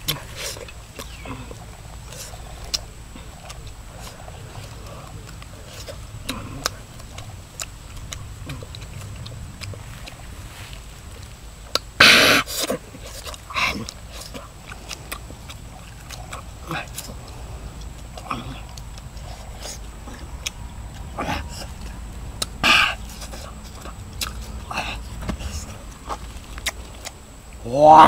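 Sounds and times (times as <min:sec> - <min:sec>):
chewing mouth sounds: 0:00.0 - 0:27.3.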